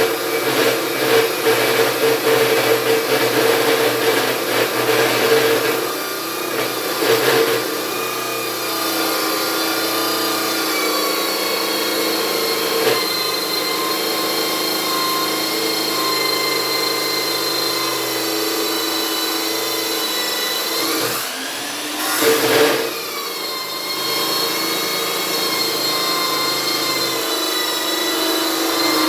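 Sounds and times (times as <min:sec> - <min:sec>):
power tool motor whining: 0:00.0 - 0:29.0.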